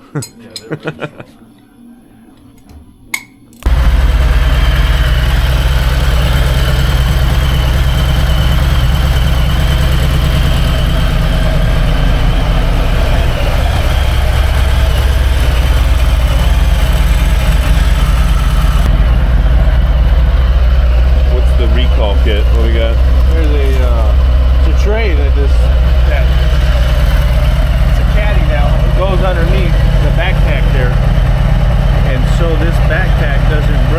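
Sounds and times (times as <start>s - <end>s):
motorcycle engine idling: 3.6s - 33.9s.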